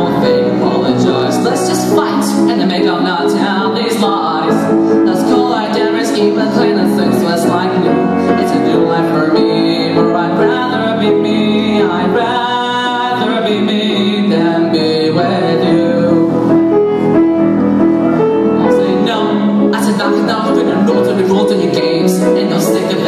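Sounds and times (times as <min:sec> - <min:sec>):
piano accompaniment: 0:00.0 - 0:23.0.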